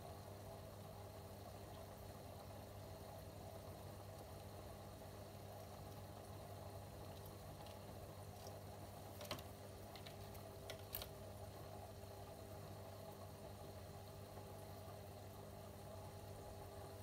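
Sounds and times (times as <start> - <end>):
aquarium air pump hum: 0.0 - 17.0.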